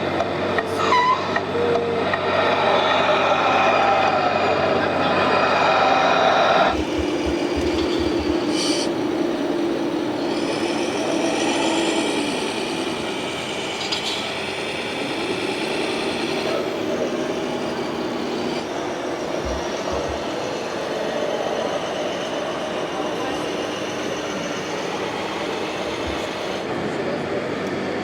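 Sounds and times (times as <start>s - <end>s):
toy truck electric motor whine: 0.0s - 26.7s.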